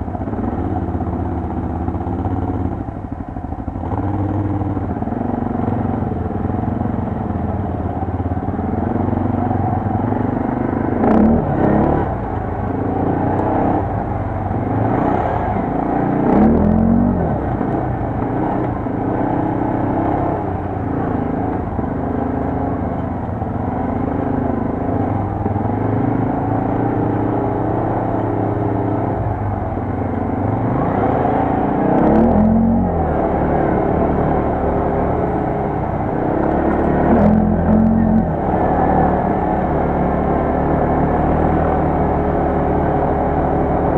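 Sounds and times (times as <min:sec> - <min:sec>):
quad bike engine revving: 0:03.7 - 0:43.9.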